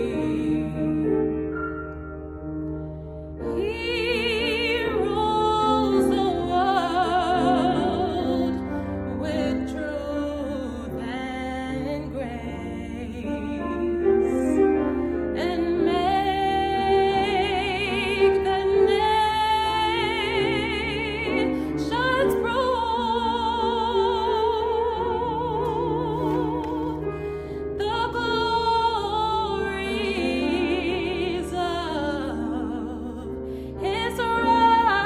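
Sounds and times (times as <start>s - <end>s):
woman singing with vibrato: 0.0s - 1.4s, 3.4s - 35.0s
held accompaniment chords: 0.0s - 35.0s.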